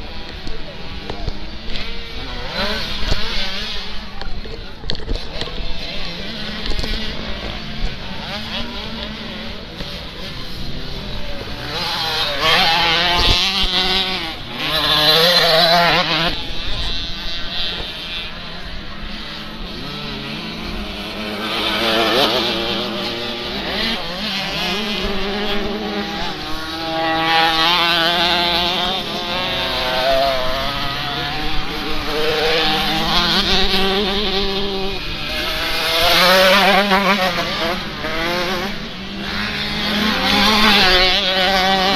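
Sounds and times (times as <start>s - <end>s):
bikes racing past: 0.0s - 41.9s
motocross bike engines revving: 0.0s - 41.9s.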